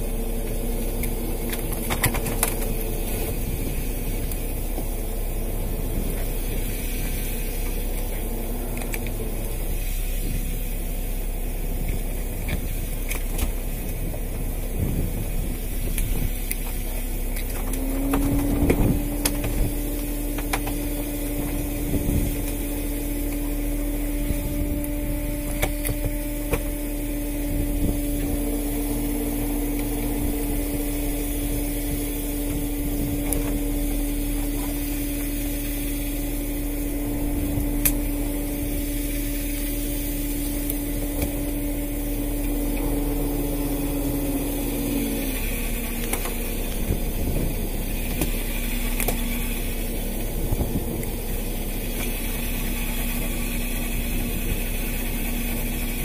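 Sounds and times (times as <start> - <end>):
hydraulic line hauler and engine hum: 0.0 - 56.0.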